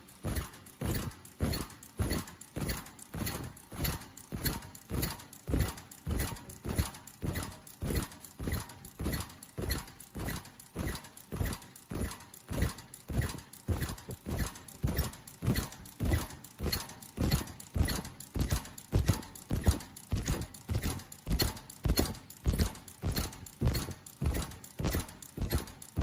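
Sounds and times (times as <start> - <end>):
welding machine clacking rhythmically: 0.0 - 26.0.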